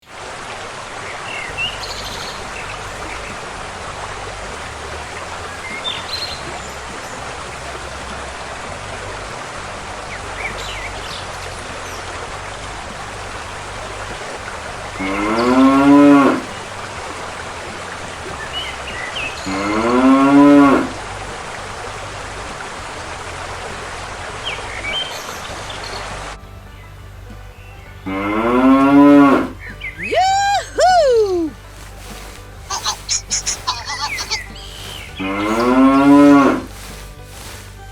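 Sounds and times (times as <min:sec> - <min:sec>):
steady background hiss: 0:00.0 - 0:28.1, 0:29.0 - 0:37.9.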